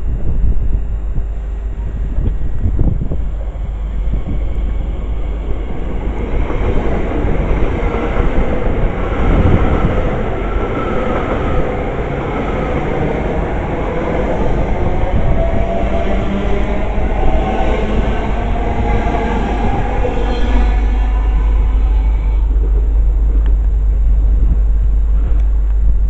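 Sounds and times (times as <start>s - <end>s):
train passing through station: 0.0s - 26.0s
wind buffeting microphone: 0.0s - 26.0s.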